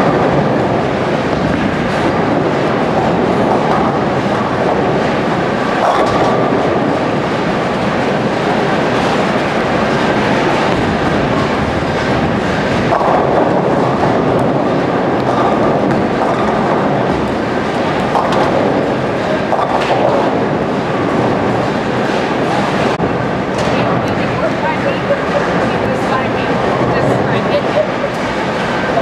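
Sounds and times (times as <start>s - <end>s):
bowling balls rolling: 0.0s - 29.0s
bowling pins clattering: 0.0s - 29.0s.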